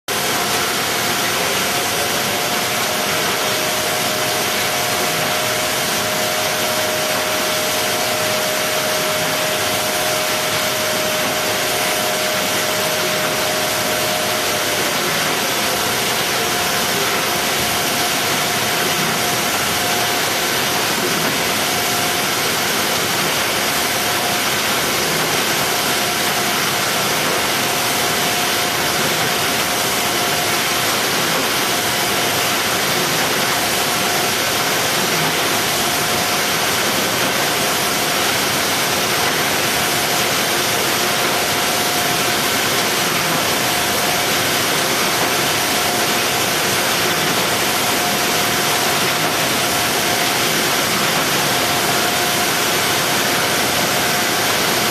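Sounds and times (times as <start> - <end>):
loud machinery hiss: 0.1 - 54.9.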